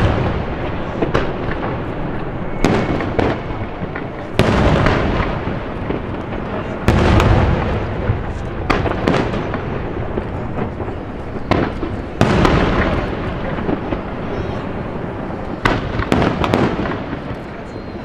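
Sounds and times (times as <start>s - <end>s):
fireworks booming: 0.0s - 18.0s
fireworks crackle and rumble: 0.0s - 18.0s.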